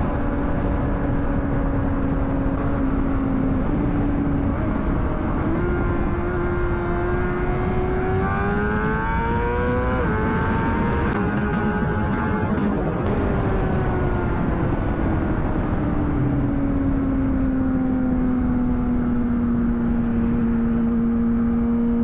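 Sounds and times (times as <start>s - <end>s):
motorcycle engine accelerating: 0.0s - 22.0s
wind rumble: 0.0s - 22.0s.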